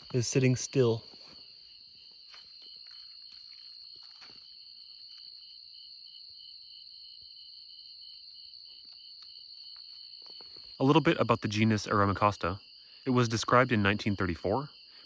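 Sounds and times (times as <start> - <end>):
insect pulsing lower trill: 0.0 - 14.5
insect high steady trill: 0.0 - 15.0.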